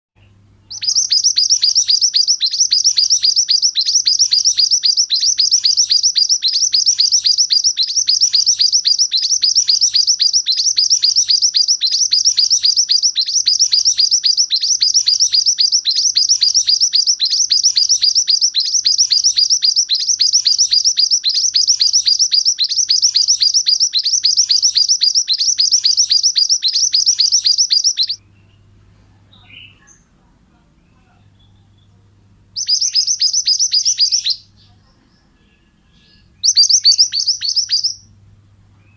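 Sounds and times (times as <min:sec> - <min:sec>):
songbird chirping rapidly: 0:00.2 - 0:38.9.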